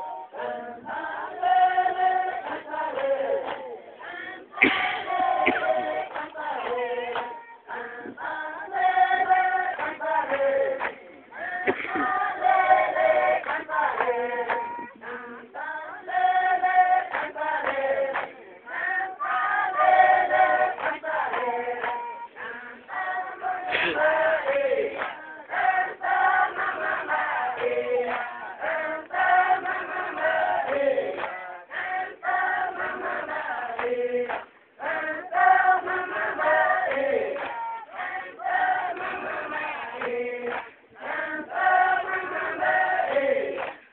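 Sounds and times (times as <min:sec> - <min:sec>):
group of people singing: 0:00.0 - 0:43.9.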